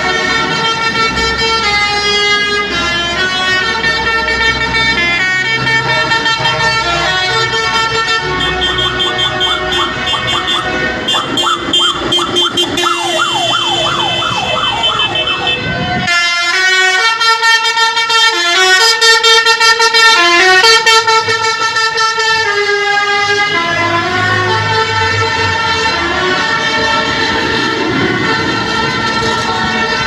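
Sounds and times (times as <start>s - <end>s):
vehicle musical horn: 0.0s - 30.0s.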